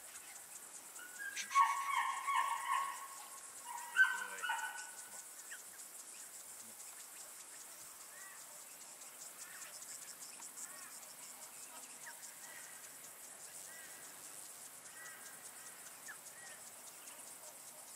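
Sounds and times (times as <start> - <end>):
insect chirping calls: 0.0 - 17.9
insects pulsing shrill: 0.0 - 17.9.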